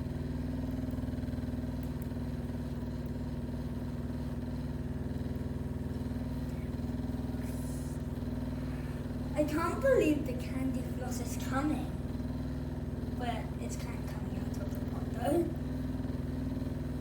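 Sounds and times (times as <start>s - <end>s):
cotton candy maker motor humming: 0.0s - 17.0s.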